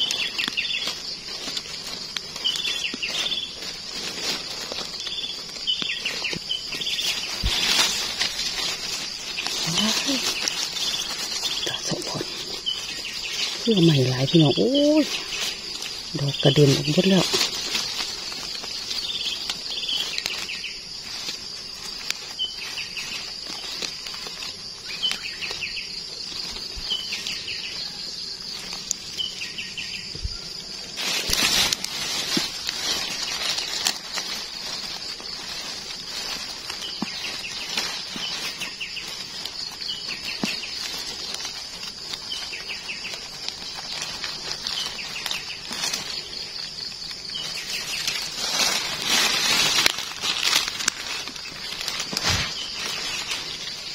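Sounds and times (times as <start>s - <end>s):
high-pitched insect drone: 0.0s - 53.9s
insect chirps: 0.0s - 53.9s
rustling of dry leaves and twigs: 0.0s - 53.9s.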